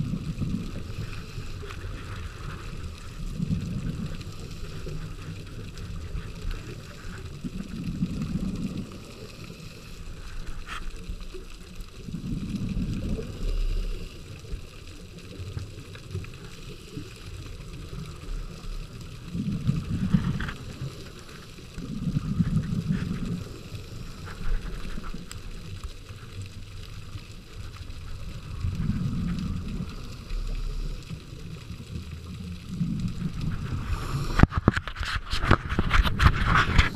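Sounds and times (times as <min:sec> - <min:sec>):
steady hiss: 0:00.0 - 0:35.6
exhaled bubbles underwater: 0:00.0 - 0:36.9
faint clicks: 0:00.2 - 0:36.9.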